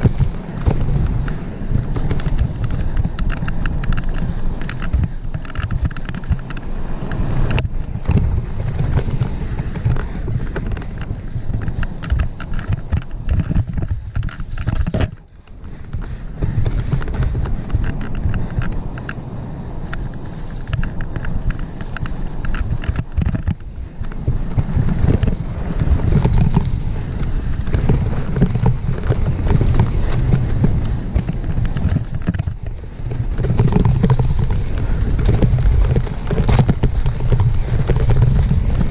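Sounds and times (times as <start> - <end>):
tyres rumbling over rough ground: 0.0 - 38.9
wind buffeting microphone: 0.0 - 38.9.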